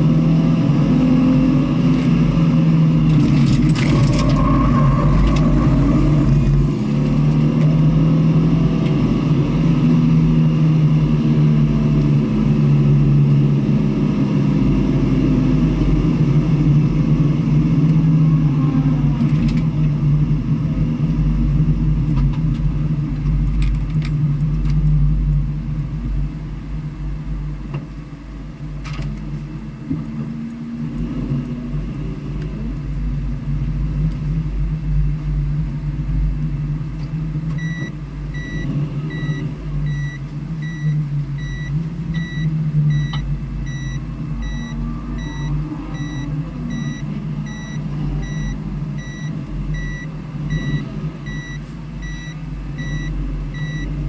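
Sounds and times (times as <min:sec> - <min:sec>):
race car engine rumbling: 0:00.0 - 0:54.0.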